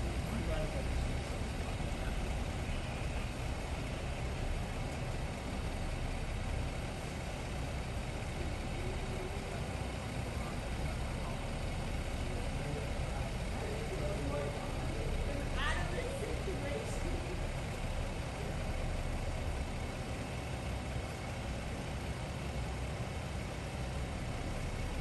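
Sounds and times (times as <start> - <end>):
faint voices: 0.0 - 23.0
car engine idling: 0.0 - 25.0.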